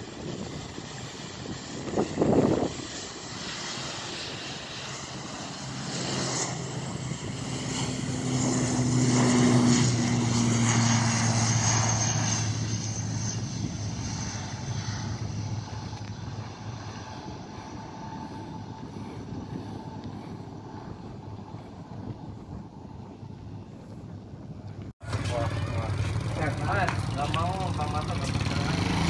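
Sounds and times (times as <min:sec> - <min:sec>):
propeller engines drone: 0:00.0 - 0:29.0.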